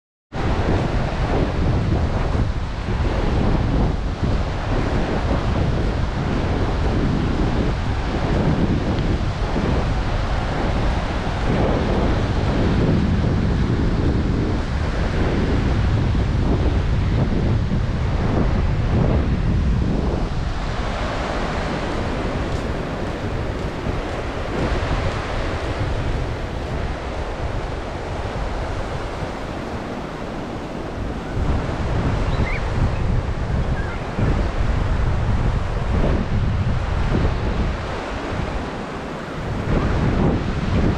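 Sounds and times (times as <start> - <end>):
wind buffeting microphone: 0.3 - 40.9
surf washing onto beach: 0.4 - 40.9.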